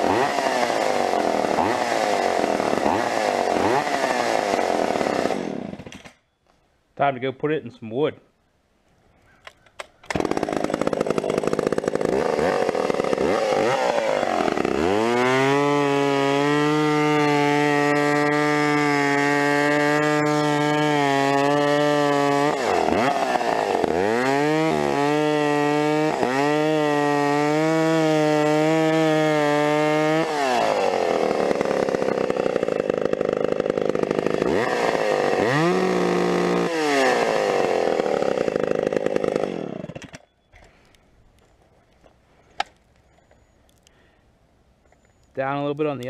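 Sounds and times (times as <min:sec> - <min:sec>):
chainsaw cutting into log: 0:00.0 - 0:06.2, 0:10.0 - 0:40.9.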